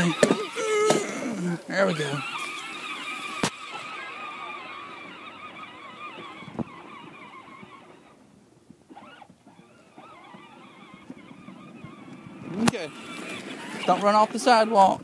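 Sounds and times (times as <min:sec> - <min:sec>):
toy tractor motor whining: 0:00.0 - 0:08.3, 0:08.9 - 0:15.0.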